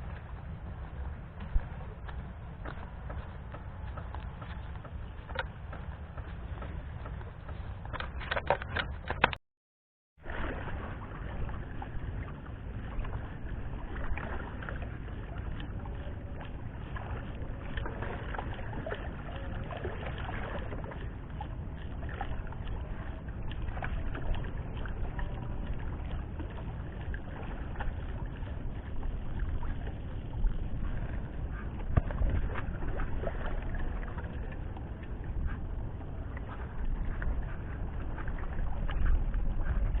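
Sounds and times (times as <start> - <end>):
water around a boat: 0.0 - 9.4, 10.2 - 40.0
wind: 0.0 - 9.4, 10.1 - 40.0.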